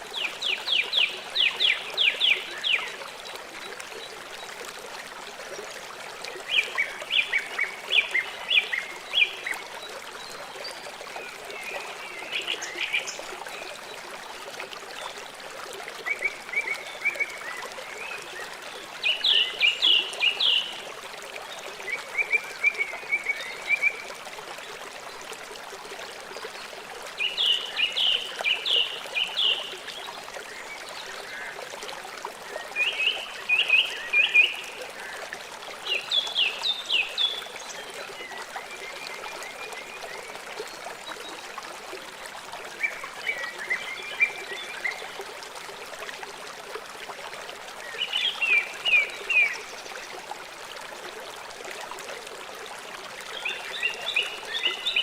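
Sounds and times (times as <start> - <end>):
river running: 0.0 - 55.0.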